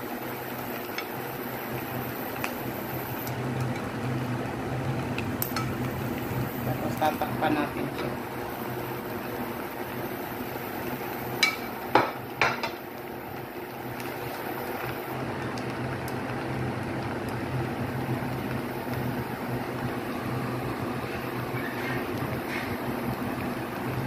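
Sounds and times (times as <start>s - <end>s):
rice sizzling in a pan: 0.0s - 24.0s.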